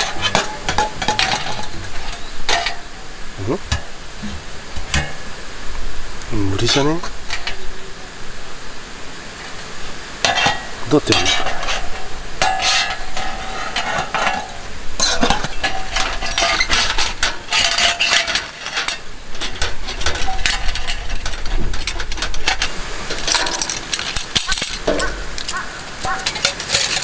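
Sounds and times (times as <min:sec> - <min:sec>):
metal panels clinking and scraping: 0:00.0 - 0:05.4, 0:06.3 - 0:07.7, 0:09.4 - 0:27.0.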